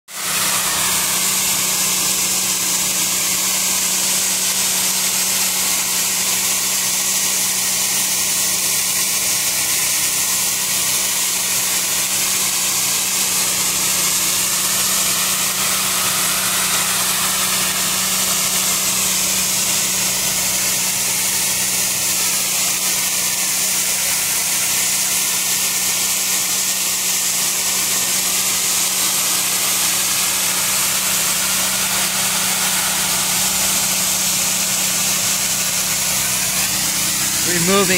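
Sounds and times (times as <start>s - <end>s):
pressure washer jet hissing: 0.1s - 37.9s
machine humming: 0.2s - 7.5s, 11.6s - 37.9s.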